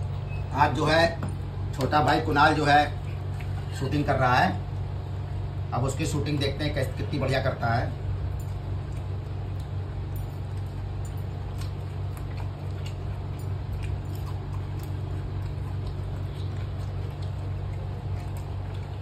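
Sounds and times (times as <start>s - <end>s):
steady low hum: 0.0s - 19.0s
hands eating off leaf plates: 1.2s - 4.9s, 6.0s - 19.0s.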